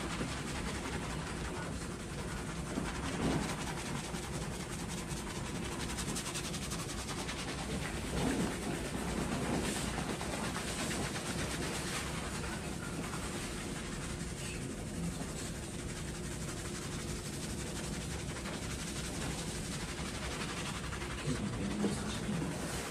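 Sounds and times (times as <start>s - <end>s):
fingers scrubbing shampoo lather: 0.0s - 22.9s.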